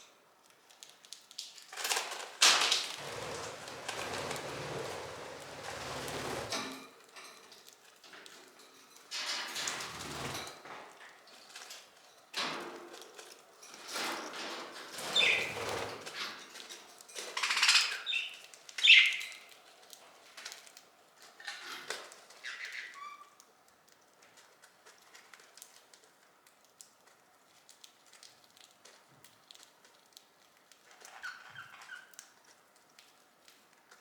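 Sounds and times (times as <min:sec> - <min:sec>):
birds fluttering and rustling: 0:00.4 - 0:34.0.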